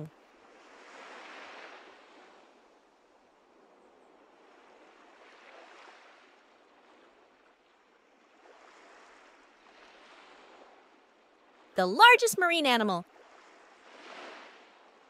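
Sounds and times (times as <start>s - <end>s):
faint ocean waves: 0.0s - 15.0s.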